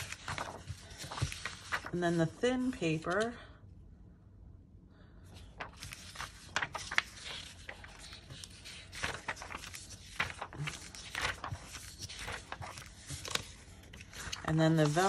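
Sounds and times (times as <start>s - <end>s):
paper rustling and scraping: 0.0s - 3.3s, 5.4s - 15.0s.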